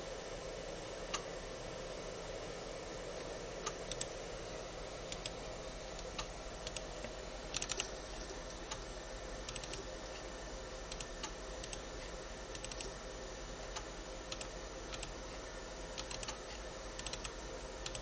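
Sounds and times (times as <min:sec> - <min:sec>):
computer cooling fan hum: 0:00.0 - 0:18.0.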